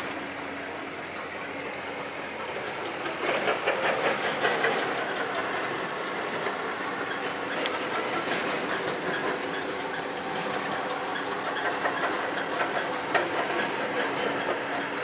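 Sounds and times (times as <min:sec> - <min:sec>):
grout machine clattering: 0:00.0 - 0:15.0
low machine hum: 0:00.0 - 0:15.0.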